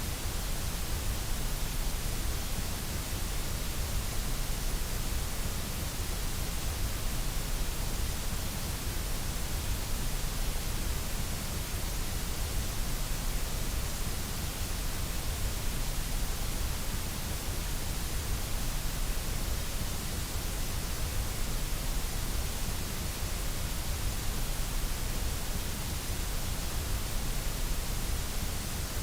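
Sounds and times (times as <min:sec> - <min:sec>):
steady electronic hiss: 0:00.0 - 0:29.0.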